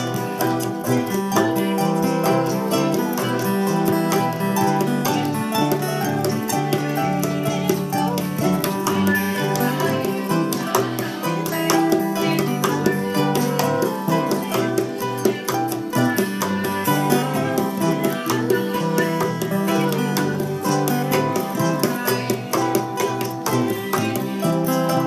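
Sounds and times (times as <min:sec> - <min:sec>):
bluegrass string-band music: 0:00.0 - 0:25.0.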